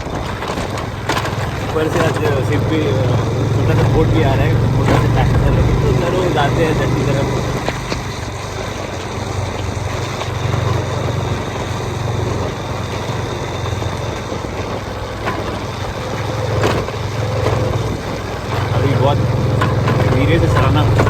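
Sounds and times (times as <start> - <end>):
small motorbike engine running: 0.0 - 21.0
wind: 0.0 - 21.0.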